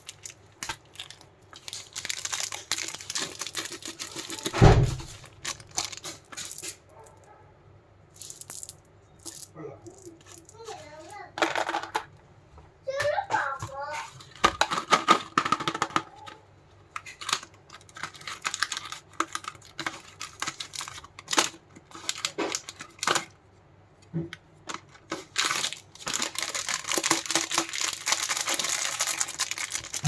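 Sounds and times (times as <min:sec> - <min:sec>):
candy wrappers crinkling: 0:00.0 - 0:06.9, 0:08.2 - 0:12.1, 0:14.1 - 0:23.4, 0:24.6 - 0:30.0.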